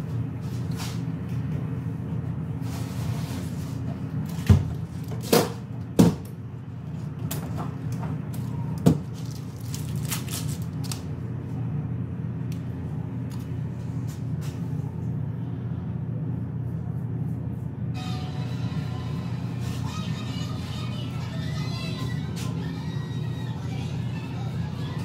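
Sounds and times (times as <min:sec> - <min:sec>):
low hum of room machinery: 0:00.0 - 0:25.0.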